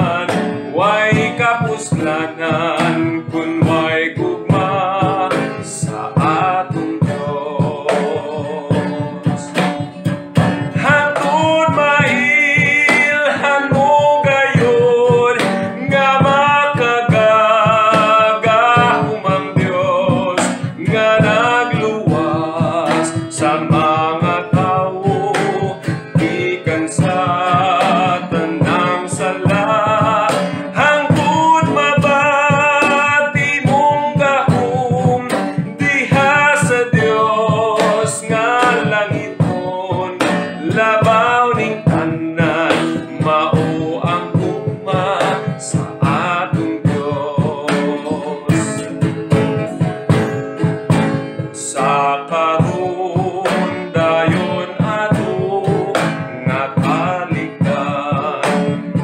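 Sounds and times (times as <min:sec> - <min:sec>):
acoustic guitar strumming: 0:00.0 - 0:59.0
man singing a hymn: 0:00.0 - 0:59.0.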